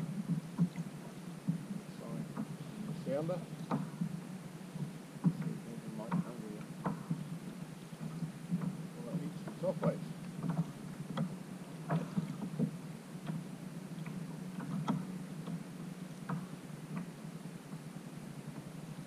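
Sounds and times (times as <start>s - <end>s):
kayak low hum: 0.0s - 19.0s
knocks and slaps through hull: 0.2s - 4.2s, 4.8s - 17.9s.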